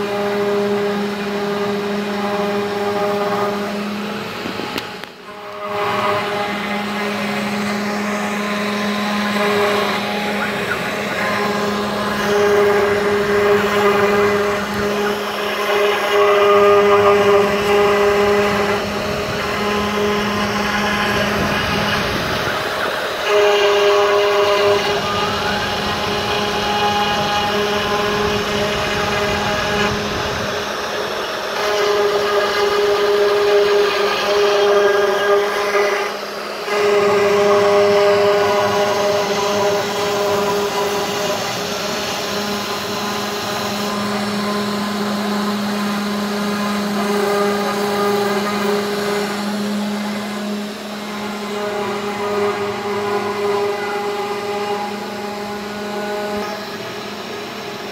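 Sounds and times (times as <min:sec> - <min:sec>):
router engraving wood whine: 0:00.0 - 0:57.9.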